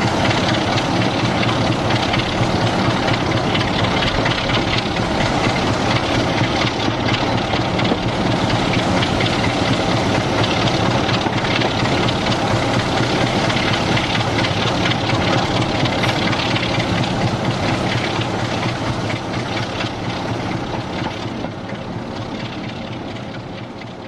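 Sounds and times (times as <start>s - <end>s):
locomotive diesel engine working hard: 0.0s - 24.0s.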